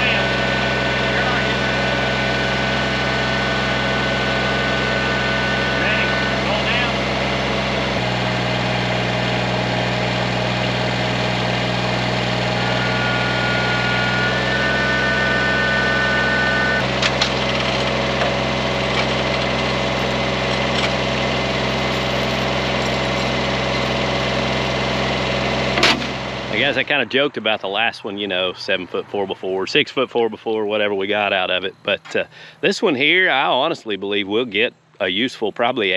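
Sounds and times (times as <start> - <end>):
high whine: 0.0 - 29.7
engine idling: 0.0 - 35.9.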